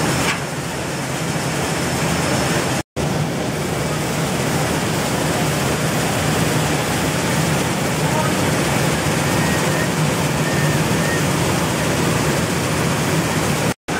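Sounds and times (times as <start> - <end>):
mill machinery humming: 0.0 - 13.9.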